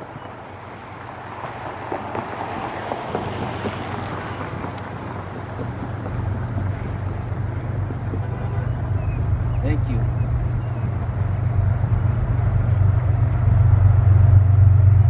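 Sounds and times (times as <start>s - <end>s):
locomotive engine drone: 0.0s - 15.0s
wind on microphone: 0.0s - 15.0s.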